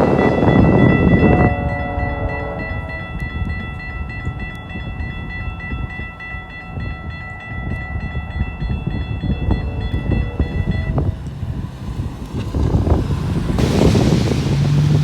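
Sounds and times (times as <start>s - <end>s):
train cars rumbling past: 0.0s - 15.0s.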